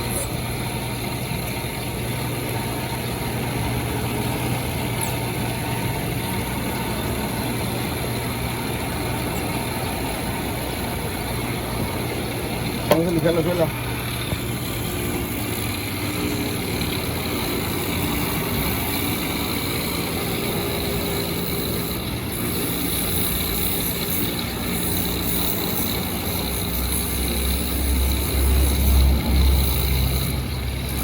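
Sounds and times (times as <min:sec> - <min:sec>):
electric sander grinding rubber: 0:00.0 - 0:31.0.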